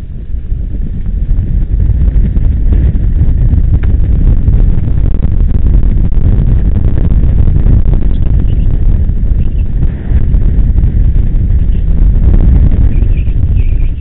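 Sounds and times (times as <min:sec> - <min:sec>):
low rumble: 0:00.0 - 0:14.0
wind buffeting: 0:00.0 - 0:14.0.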